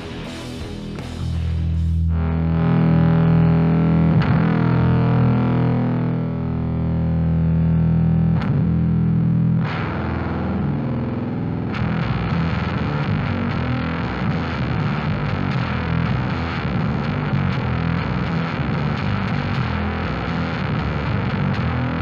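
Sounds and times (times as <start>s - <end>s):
fuzzy distorted bass notes: 0.0s - 22.0s.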